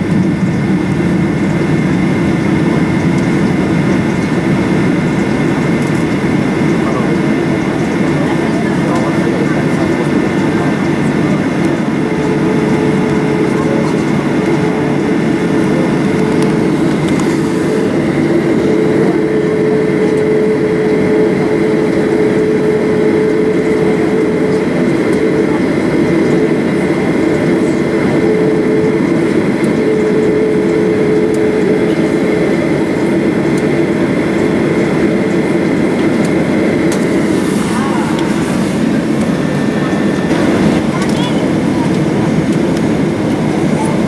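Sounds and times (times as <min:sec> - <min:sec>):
jet engines rumbling in cabin: 0:00.0 - 0:44.0
humming tone: 0:02.8 - 0:44.0.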